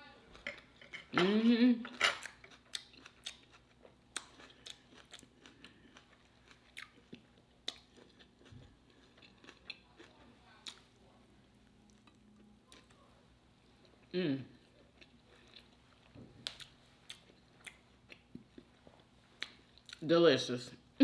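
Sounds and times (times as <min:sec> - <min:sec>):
chewing: 0:01.9 - 0:11.0, 0:11.9 - 0:20.0.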